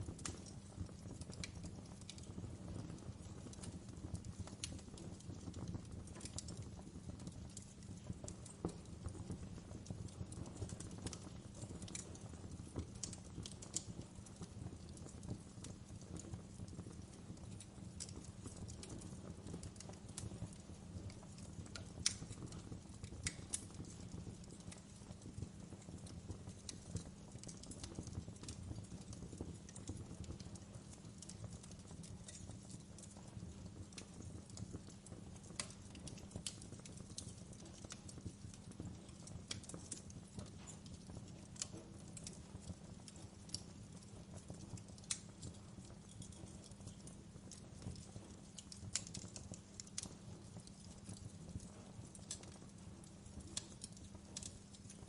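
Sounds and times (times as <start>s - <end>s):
fire flames rumbling: 0.0s - 55.0s
logs crackling and popping: 0.0s - 55.0s.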